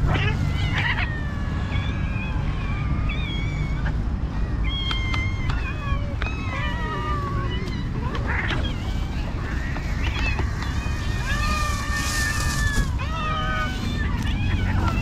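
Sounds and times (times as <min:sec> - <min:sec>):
cats meowing: 0:00.0 - 0:15.0.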